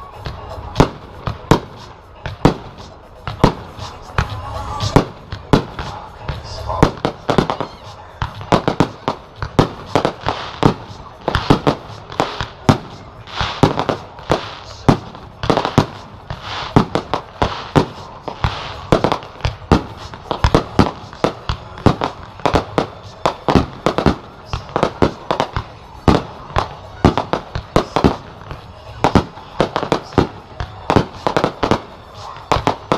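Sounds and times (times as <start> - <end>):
continuous noisy wash: 0.0 - 32.9
firework shells bursting: 0.2 - 32.9.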